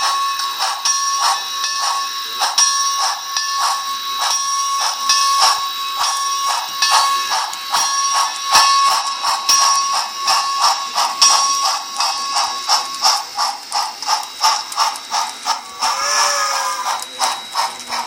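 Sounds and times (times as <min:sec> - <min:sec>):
steam locomotive chuffing from speaker: 0:00.0 - 0:18.0.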